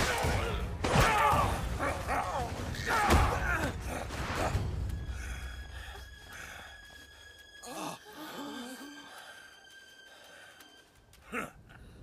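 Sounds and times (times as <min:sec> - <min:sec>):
faint sustained music tones: 0:00.0 - 0:12.0.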